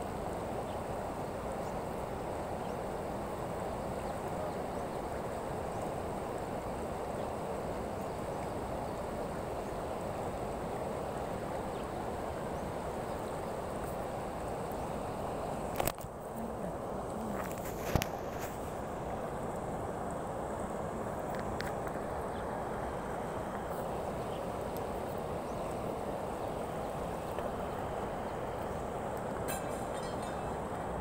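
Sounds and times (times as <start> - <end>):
river water over stones: 0.0 - 31.0.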